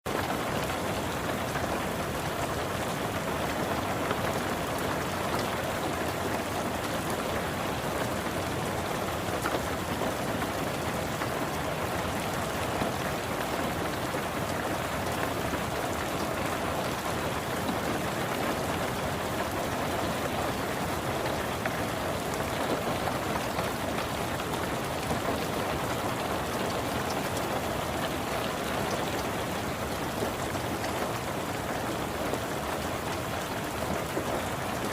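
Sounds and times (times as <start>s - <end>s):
rain on car roof: 0.1s - 34.9s.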